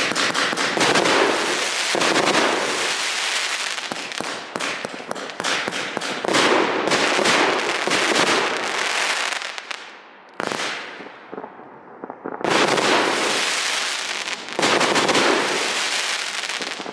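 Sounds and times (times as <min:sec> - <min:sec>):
fireworks loud bursts: 0:00.0 - 0:11.5, 0:12.4 - 0:16.9
fireworks crackling: 0:00.0 - 0:16.9
fireworks sharp shots: 0:00.0 - 0:16.9.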